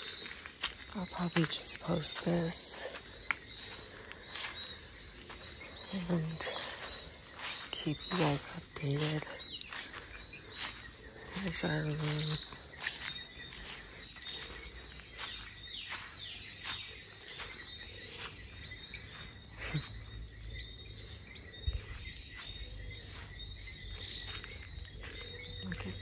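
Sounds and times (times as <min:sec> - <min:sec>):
birds calling: 0:00.0 - 0:26.0
footsteps on grass and dirt: 0:00.0 - 0:26.0
insects chirping: 0:00.0 - 0:26.0.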